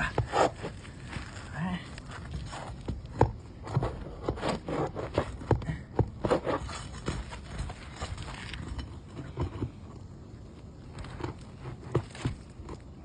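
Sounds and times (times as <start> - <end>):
tool scraping under shingles: 0.0 - 10.0, 10.6 - 13.0.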